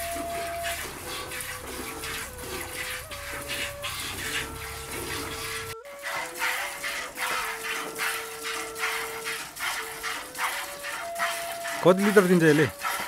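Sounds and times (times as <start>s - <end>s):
background music: 0.0s - 12.8s
milk squirting into a bucket: 0.0s - 13.0s.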